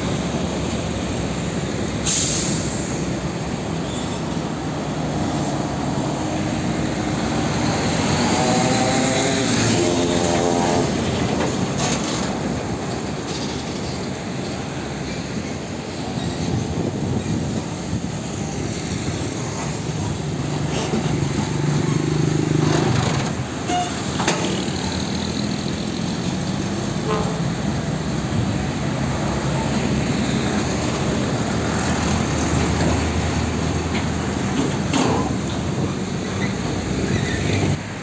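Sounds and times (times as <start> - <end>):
diesel trucks driving past: 0.0 - 38.0.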